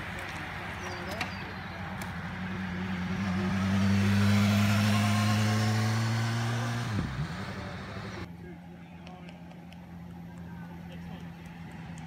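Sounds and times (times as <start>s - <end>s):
vehicle engine running: 0.9s - 12.0s.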